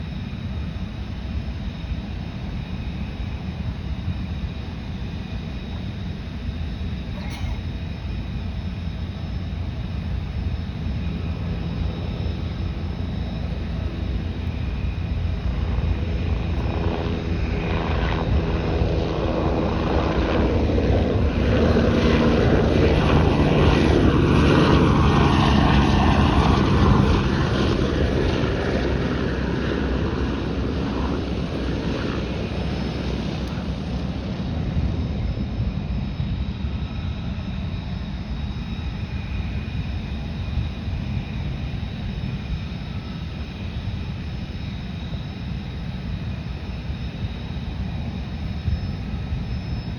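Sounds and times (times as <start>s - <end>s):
aircraft engines passing: 0.0s - 49.9s.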